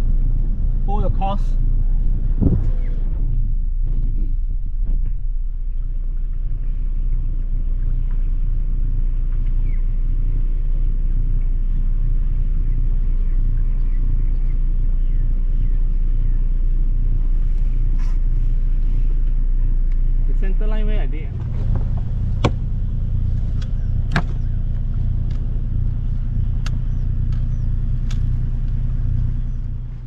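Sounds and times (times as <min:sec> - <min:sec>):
boat engine low rumble: 0:00.0 - 0:30.0.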